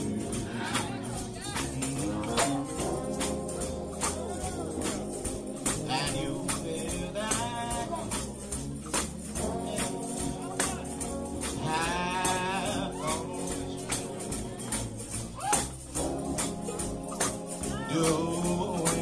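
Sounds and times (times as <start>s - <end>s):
singing: 0.0s - 19.0s
sustained instruments: 0.0s - 19.0s
tambourine beat: 0.0s - 19.0s.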